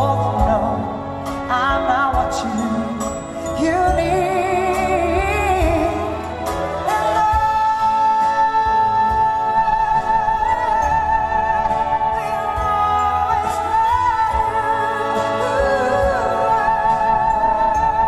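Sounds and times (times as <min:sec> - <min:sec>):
string orchestra: 0:00.0 - 0:18.0
woman singing: 0:00.0 - 0:18.0.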